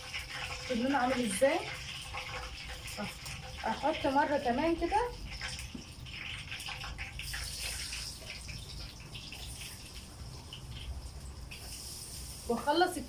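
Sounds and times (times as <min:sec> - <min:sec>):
chicken sizzling in frying oil: 0:00.0 - 0:13.0.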